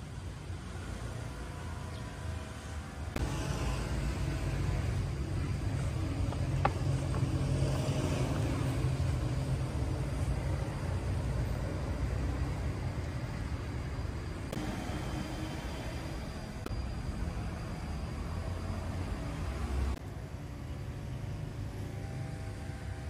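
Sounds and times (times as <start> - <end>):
vehicle engine rumbling: 0.0 - 21.9.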